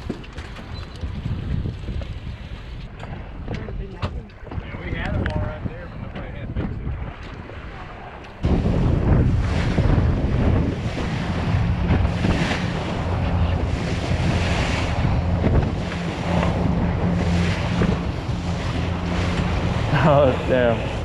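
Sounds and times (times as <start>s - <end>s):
water rushing against hull: 0.0s - 21.0s
wind buffeting microphone: 0.0s - 21.0s
boat engine drone: 2.0s - 21.0s.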